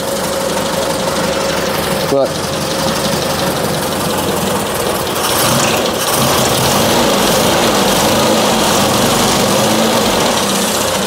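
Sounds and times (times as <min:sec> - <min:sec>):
car engine idling rough: 0:00.0 - 0:11.0.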